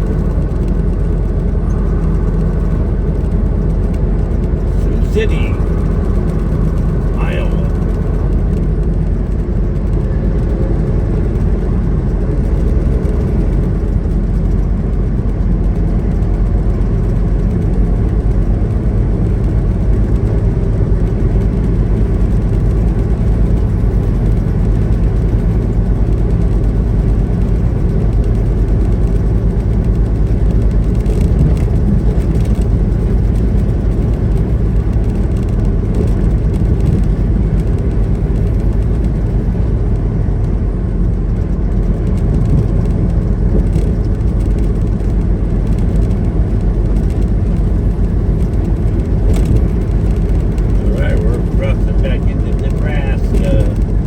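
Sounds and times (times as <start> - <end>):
road noise: 0.0 - 54.0
truck engine drone: 0.0 - 54.0.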